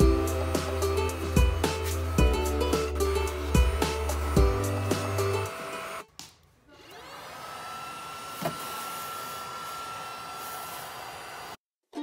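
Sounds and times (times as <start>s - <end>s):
stick vacuum whining: 0.0s - 6.1s, 6.7s - 11.6s.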